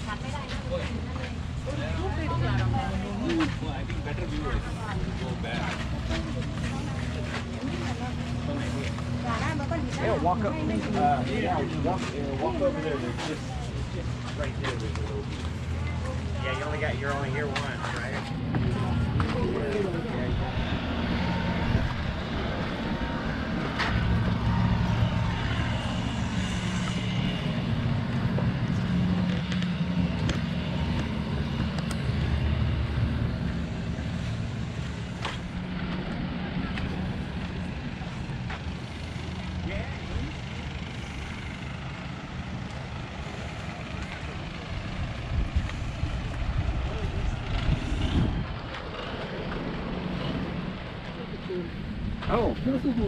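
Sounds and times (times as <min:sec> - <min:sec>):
faint voices talking: 0:00.0 - 0:53.0
low rumble: 0:00.0 - 0:53.0
motorboat engines droning: 0:00.0 - 0:53.0.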